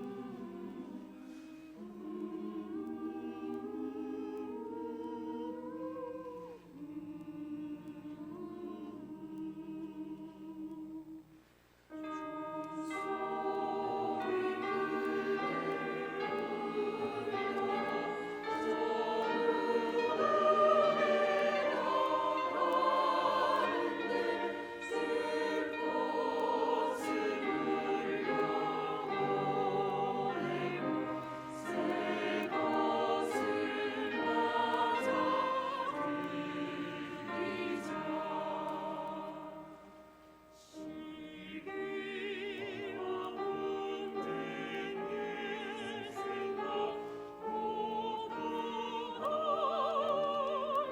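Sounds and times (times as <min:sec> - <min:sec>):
choir singing a hymn: 0:00.0 - 0:11.3, 0:11.9 - 0:50.9.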